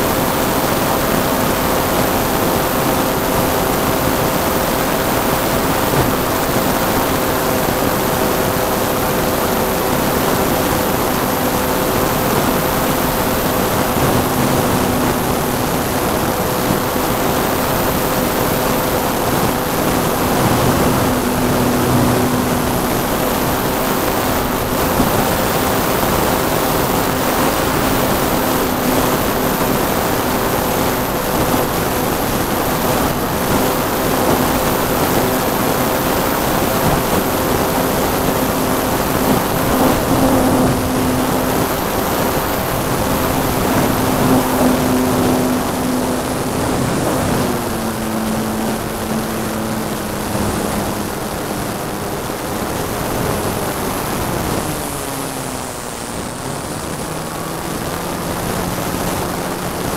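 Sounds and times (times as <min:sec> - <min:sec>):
model plane motor humming: 0:00.0 - 0:59.9
wind rushing over microphone: 0:00.0 - 0:59.9.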